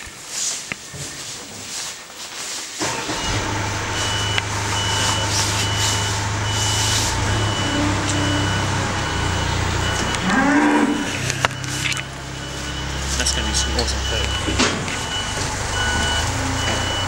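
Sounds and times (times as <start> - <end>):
engine droning: 2.8 - 17.0
reversing alarm beeping: 2.8 - 17.0.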